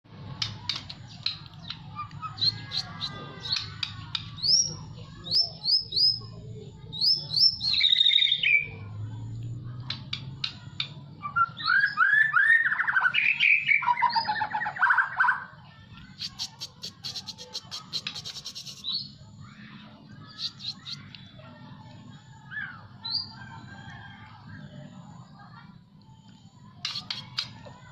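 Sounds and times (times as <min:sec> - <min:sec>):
songbird singing: 0:00.4 - 0:24.9.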